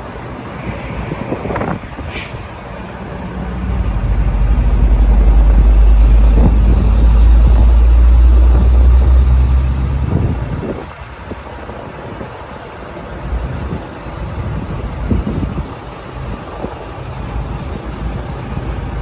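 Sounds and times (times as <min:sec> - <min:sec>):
heavy truck engine rumbling: 0:00.0 - 0:19.0.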